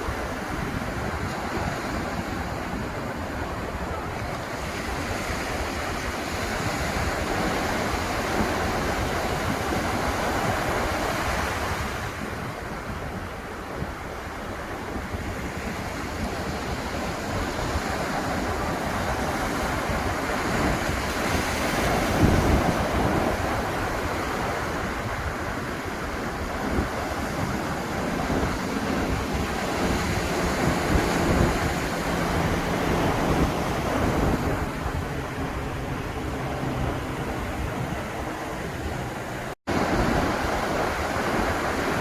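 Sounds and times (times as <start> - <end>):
waves breaking: 0.0 - 42.0
wind rumbling on microphone: 0.0 - 42.0.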